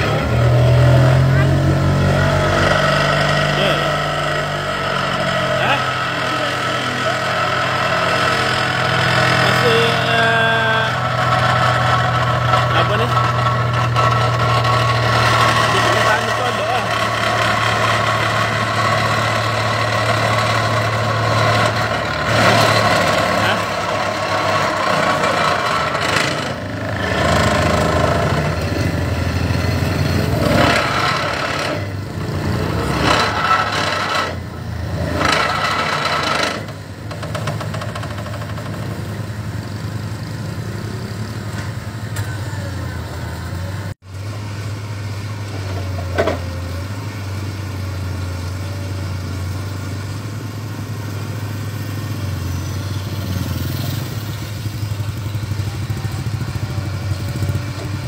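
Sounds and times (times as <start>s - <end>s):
heavy engine droning: 0.0s - 58.0s.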